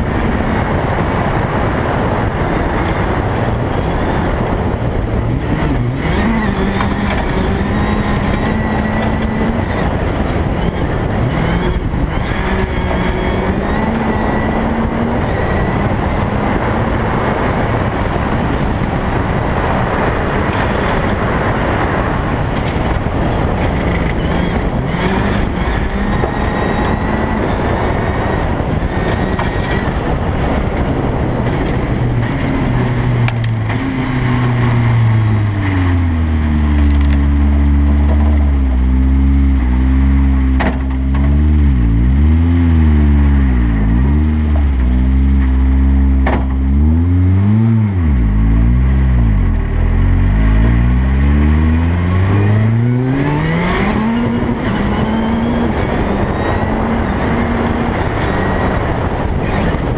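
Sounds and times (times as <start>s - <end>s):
rally car engine revving: 0.0s - 59.9s
tyre gravel and wind noise: 0.0s - 59.9s.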